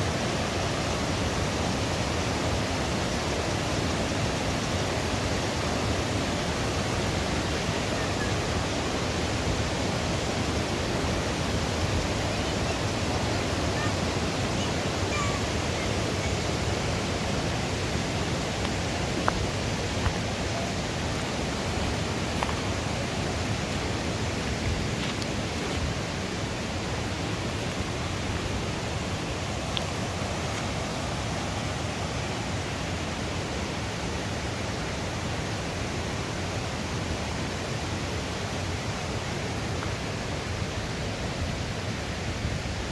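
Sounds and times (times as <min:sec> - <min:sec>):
rushing water roar: 0:00.0 - 0:42.9.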